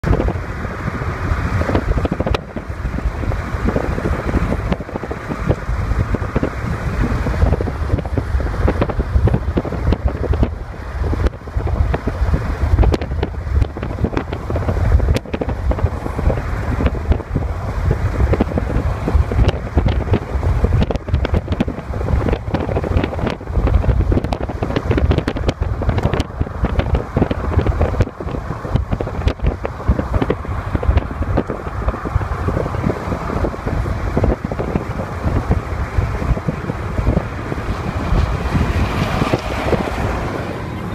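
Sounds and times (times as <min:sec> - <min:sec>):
freeway traffic rushing: 0:00.0 - 0:40.9
wind buffeting microphone: 0:00.0 - 0:40.9.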